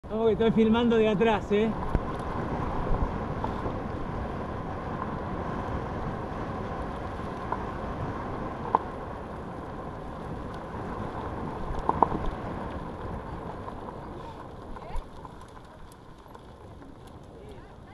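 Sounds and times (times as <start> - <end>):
bike tyres rumbling on dirt: 0.0 - 17.9
wind buffeting microphone: 0.0 - 17.9.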